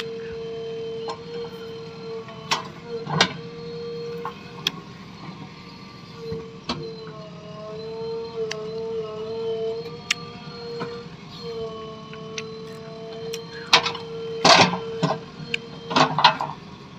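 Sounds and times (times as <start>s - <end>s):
backhoe engine running: 0.0s - 16.9s
steady hydraulic whine: 0.0s - 16.9s.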